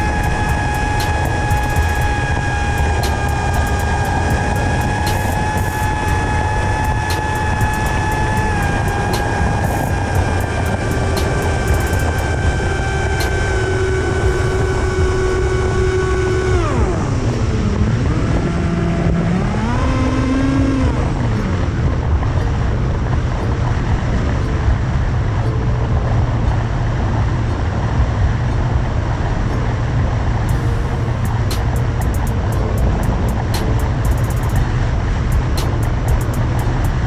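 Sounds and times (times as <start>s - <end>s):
electric motor and propeller whining: 0.0s - 37.0s
wind rumble: 0.0s - 37.0s.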